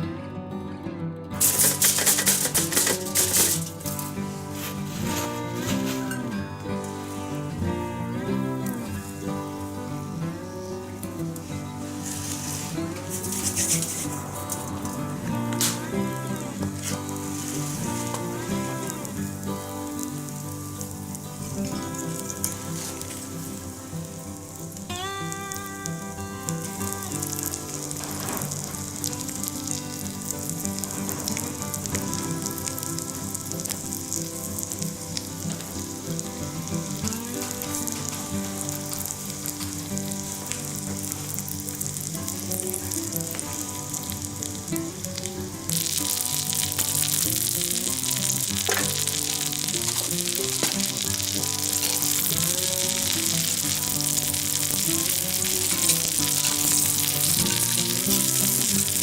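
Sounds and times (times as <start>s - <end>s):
background music: 0.0s - 59.0s
food sizzling in a skillet: 1.4s - 59.0s.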